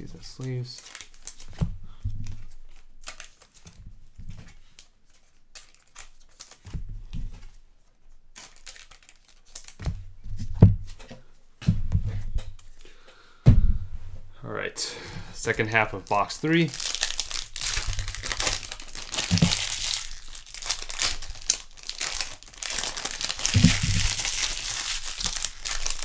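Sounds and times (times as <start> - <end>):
plastic sleeves crinkling: 0.0 - 11.2, 15.4 - 26.0.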